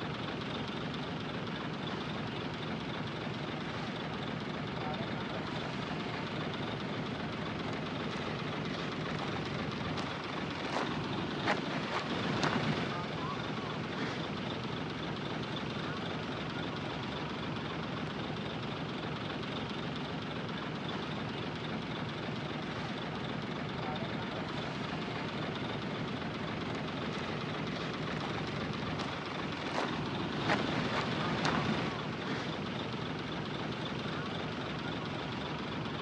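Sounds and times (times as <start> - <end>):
heavy machinery running: 0.0 - 36.0.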